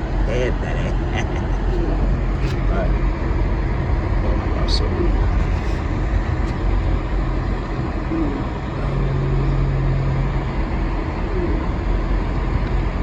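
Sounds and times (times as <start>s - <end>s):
car engine and road noise: 0.0s - 13.0s
low hum: 0.0s - 13.0s.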